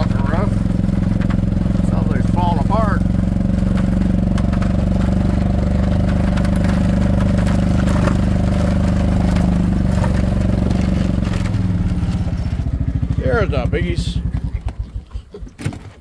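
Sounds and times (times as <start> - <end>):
rattling on roof: 0.0 - 16.0
vehicle engine running: 0.0 - 16.0.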